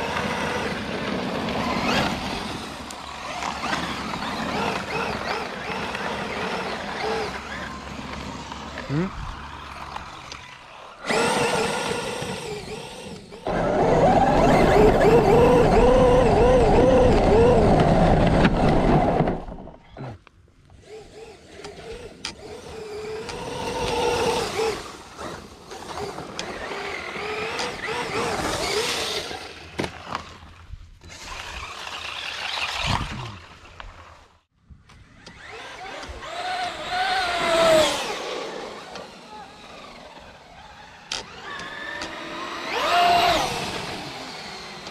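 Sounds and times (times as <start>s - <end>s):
electric motor whining: 0.0s - 20.0s, 20.8s - 29.6s, 35.0s - 44.9s.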